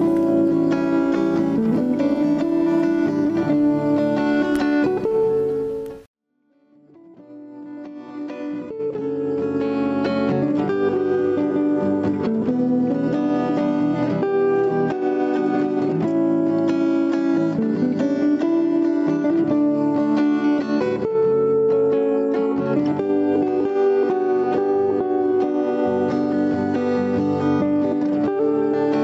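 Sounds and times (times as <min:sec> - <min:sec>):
plucked guitar music: 0:00.0 - 0:29.0.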